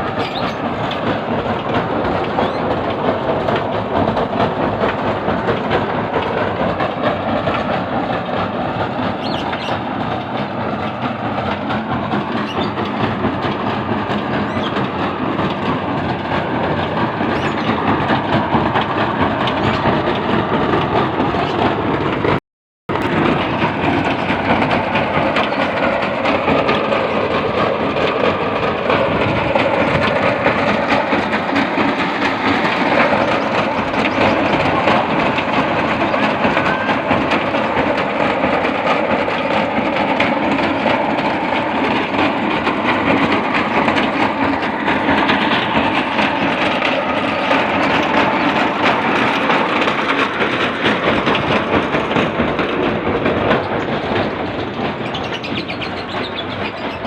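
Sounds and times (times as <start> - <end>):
soil sifting machine clattering: 0.0 - 57.0.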